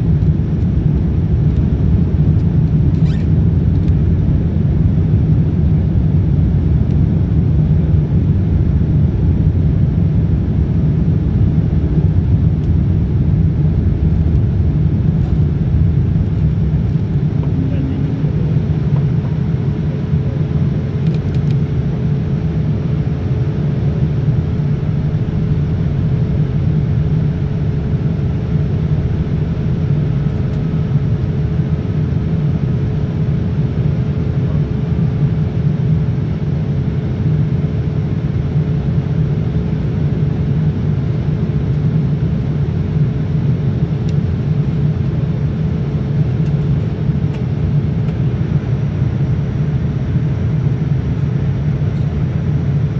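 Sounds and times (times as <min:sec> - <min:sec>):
airplane cabin rumble: 0:00.0 - 0:52.9
faint steady hum: 0:00.0 - 0:52.9.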